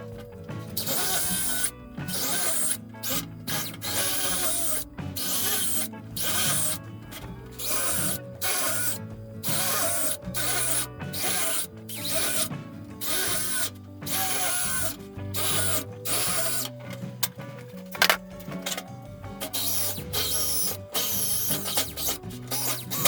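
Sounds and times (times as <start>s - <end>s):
background music: 0.0s - 23.0s
hand tool rasping metal: 0.0s - 23.0s.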